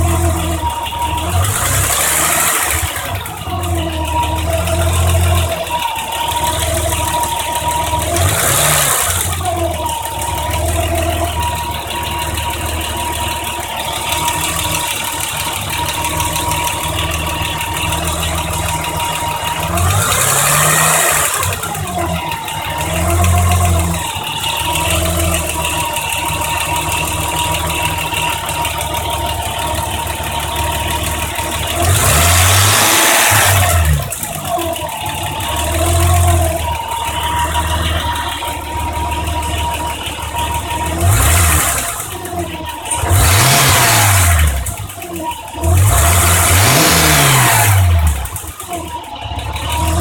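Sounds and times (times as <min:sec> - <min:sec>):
car engine idling and revving: 0:00.0 - 0:50.0
engine rattle: 0:00.0 - 0:50.0.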